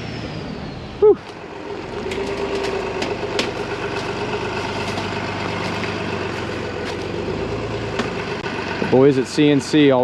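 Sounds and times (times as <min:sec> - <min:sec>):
heavy truck engine idling: 0:00.0 - 0:10.0.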